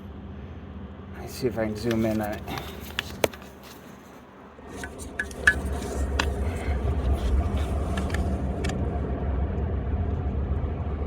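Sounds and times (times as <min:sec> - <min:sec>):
tractor engine idling: 0:00.0 - 0:09.0.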